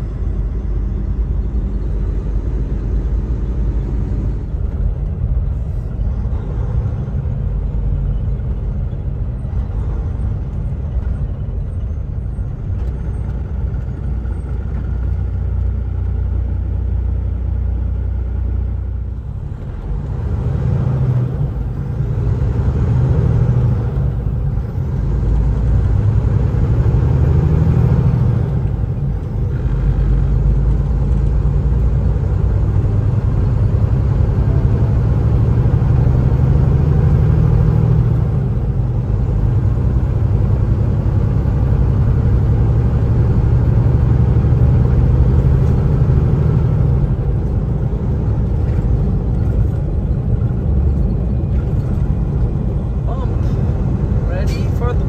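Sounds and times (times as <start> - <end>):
truck diesel engine rumble: 0.0 - 55.0.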